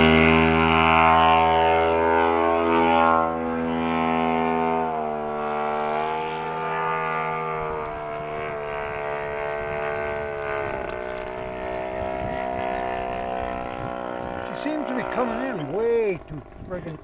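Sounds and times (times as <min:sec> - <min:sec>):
model airplane engine droning: 0:00.0 - 0:17.0.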